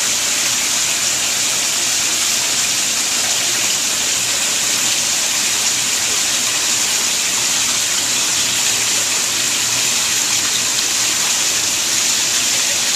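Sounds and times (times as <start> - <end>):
water rushing: 0.0 - 12.9.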